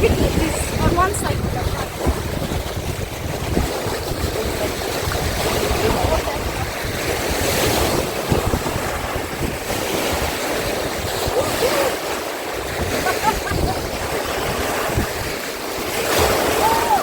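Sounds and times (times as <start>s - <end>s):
water rushing and splashing: 0.0s - 17.0s
wind buffeting microphone: 0.0s - 17.0s.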